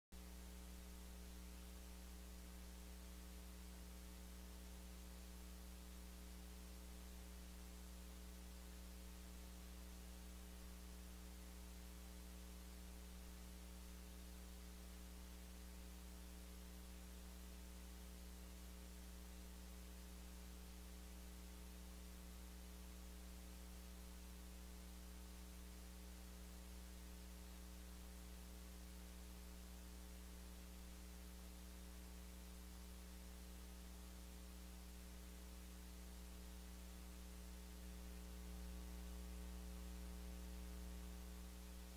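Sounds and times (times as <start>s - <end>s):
electrical mains hum: 0.2s - 41.9s
faint hiss: 0.2s - 41.9s.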